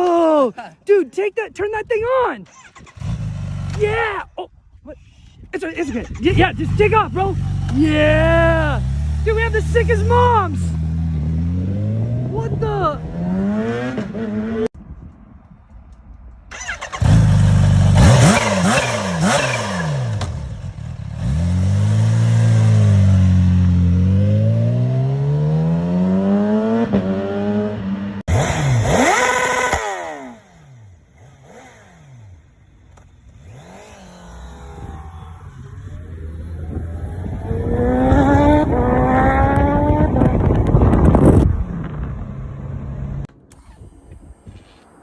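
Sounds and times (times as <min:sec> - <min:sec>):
motorcycle engines revving: 0:02.5 - 0:04.1, 0:05.8 - 0:14.7, 0:16.5 - 0:43.7.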